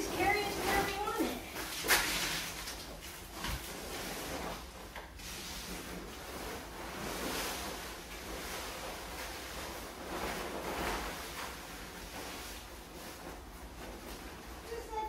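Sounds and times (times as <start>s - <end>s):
plastic tarp rustling and crinkling: 0.0s - 15.0s.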